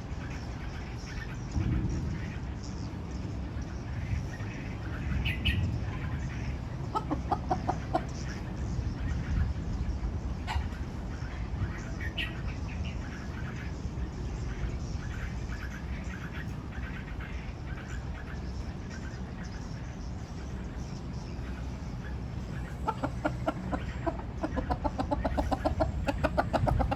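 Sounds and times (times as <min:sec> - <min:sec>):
chickens clucking: 0:03.6 - 0:26.9.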